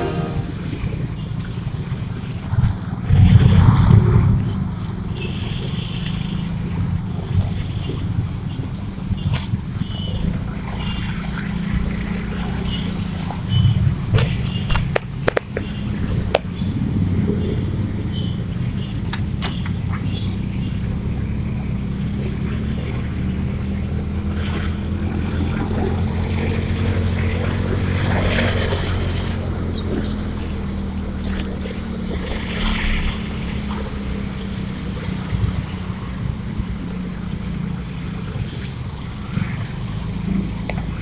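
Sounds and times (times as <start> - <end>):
road and wind noise: 0.0 - 41.0.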